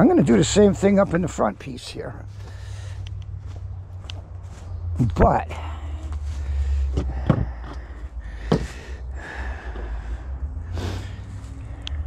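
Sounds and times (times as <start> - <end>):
man breathing heavily: 2.2 - 12.0.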